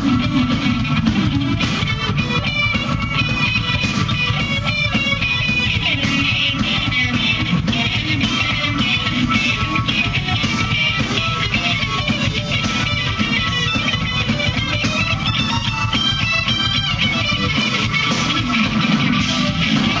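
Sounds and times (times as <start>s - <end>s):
driving drum kit: 0.0s - 20.0s
electric guitar lines: 0.0s - 20.0s
live funk band: 0.0s - 20.0s.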